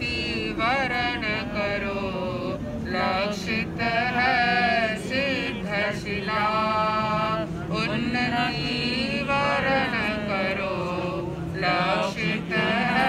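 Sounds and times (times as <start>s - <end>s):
men singing devotional song: 0.0s - 13.0s.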